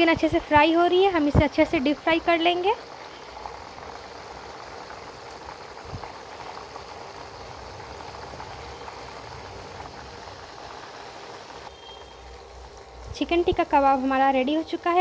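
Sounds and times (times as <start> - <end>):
hot oil sizzling and bubbling: 0.0 - 15.0.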